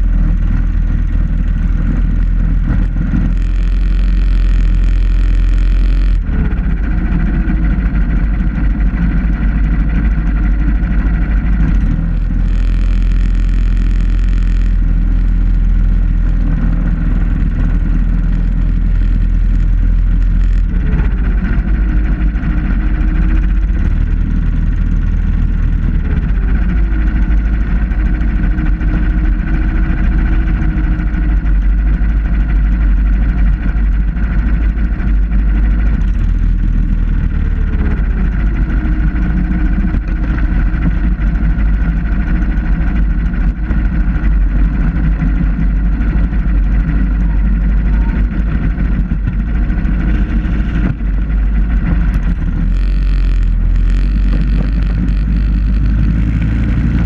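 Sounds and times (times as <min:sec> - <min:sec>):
small engine running: 0:00.0 - 0:57.0
wind and road rumble: 0:00.0 - 0:57.0.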